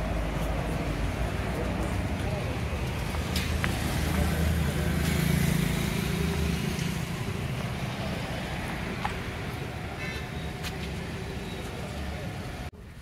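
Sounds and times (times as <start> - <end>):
car engine and tyre rumble: 0.0 - 13.0
street noise: 0.0 - 13.0.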